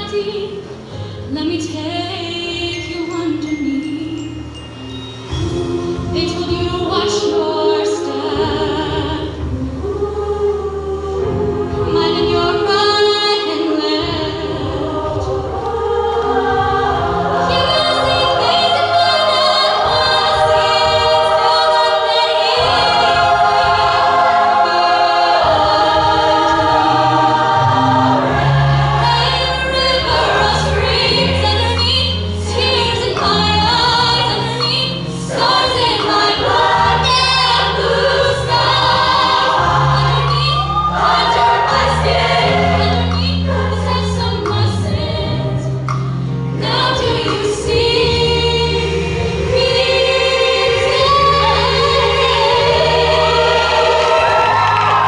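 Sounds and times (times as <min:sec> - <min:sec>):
women's choir singing in harmony: 0:05.2 - 0:55.0.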